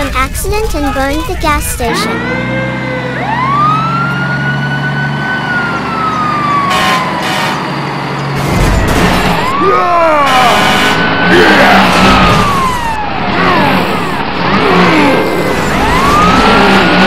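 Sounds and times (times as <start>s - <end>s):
fire truck siren wailing: 1.6s - 17.0s.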